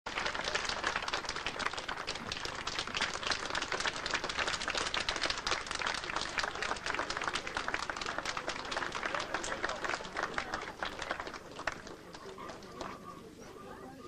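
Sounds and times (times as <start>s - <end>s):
crowd applauding: 0.1s - 13.4s.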